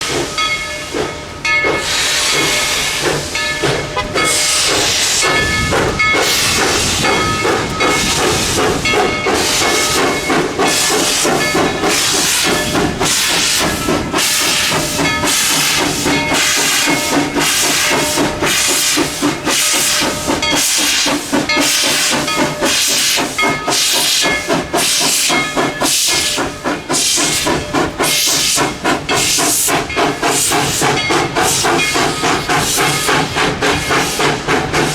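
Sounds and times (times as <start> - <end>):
steady hiss of steam: 0.0 - 34.9
steam locomotive exhaust chuffing: 0.0 - 34.9.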